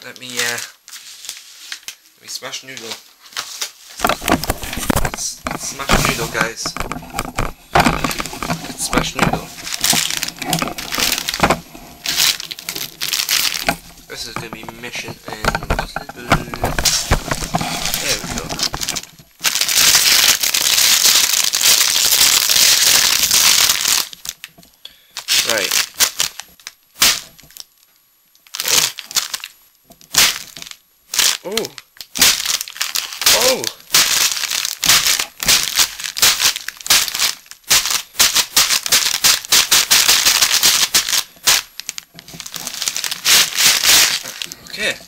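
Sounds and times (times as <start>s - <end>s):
noodles crunching in plastic bag: 2.7s - 24.4s, 25.2s - 27.7s, 28.4s - 45.0s.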